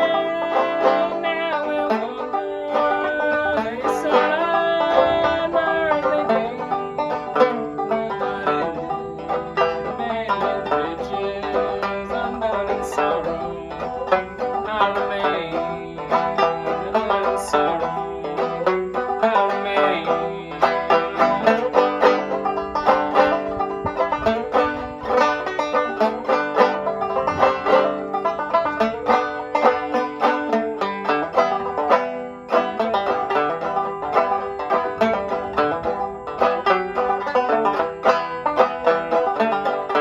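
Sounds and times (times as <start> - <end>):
banjo picking a tune: 0.0 - 40.0.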